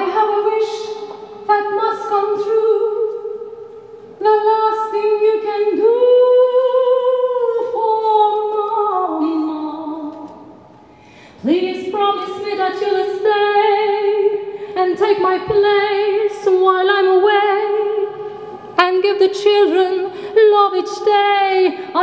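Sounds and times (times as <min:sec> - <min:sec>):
woman singing unaccompanied: 0:00.0 - 0:03.6, 0:04.2 - 0:10.4, 0:11.4 - 0:18.2, 0:18.8 - 0:22.0.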